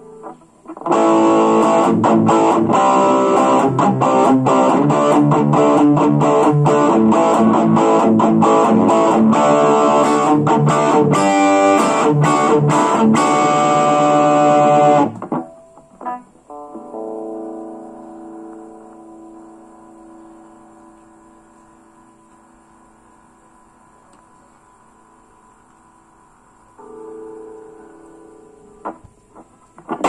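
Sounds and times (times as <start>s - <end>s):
electric guitar notes and strums: 0.0s - 22.4s, 26.8s - 30.0s.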